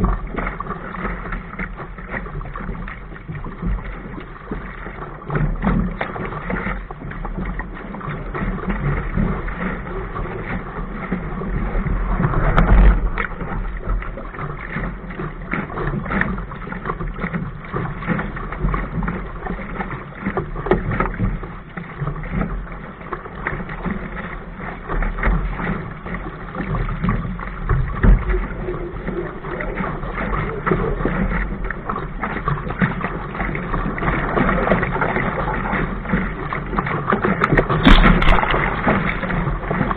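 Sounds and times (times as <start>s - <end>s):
water slapping against hull: 0.0s - 39.9s.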